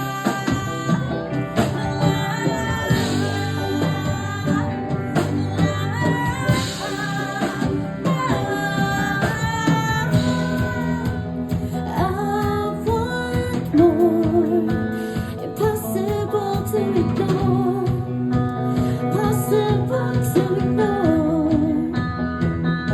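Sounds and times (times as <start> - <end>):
person singing: 0.0 - 22.1
bass guitar: 0.0 - 22.9
drum kit: 0.0 - 22.9
electric guitar: 0.0 - 22.9.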